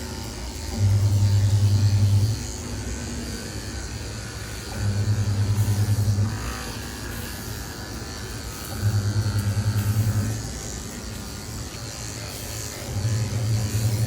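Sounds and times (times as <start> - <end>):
electric clippers buzzing: 0.0 - 14.0.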